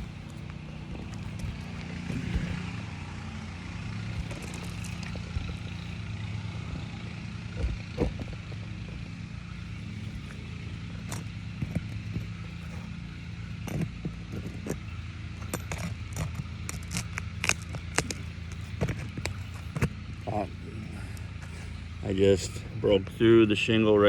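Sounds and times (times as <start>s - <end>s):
roof shingles knocking and scraping: 0.0s - 3.2s, 4.0s - 6.0s, 7.4s - 21.9s
low mechanical hum: 0.0s - 24.0s.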